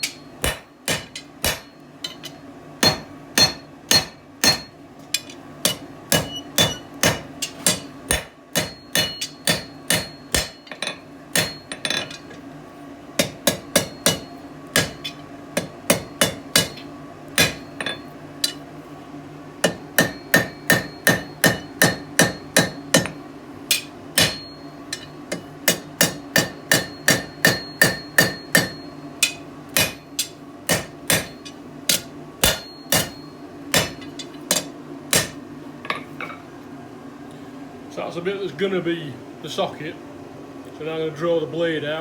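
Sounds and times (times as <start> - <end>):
hammer striking metal on anvil: 0.0 - 12.4, 13.2 - 18.6, 19.6 - 36.1.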